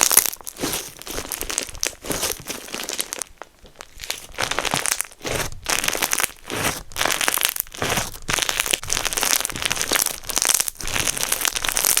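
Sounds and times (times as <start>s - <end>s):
slime squeezed by hand crackling: 0.0s - 12.0s.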